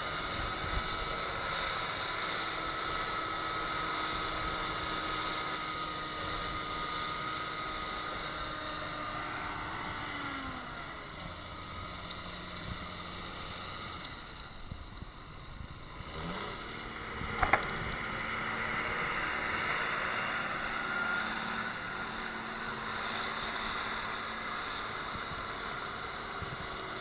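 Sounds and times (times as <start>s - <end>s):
tractor engine revving: 0.0s - 27.0s.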